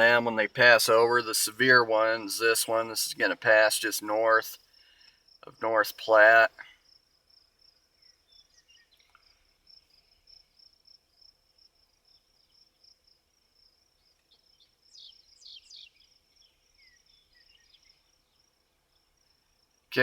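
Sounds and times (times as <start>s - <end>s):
insect trill: 0.0s - 20.0s.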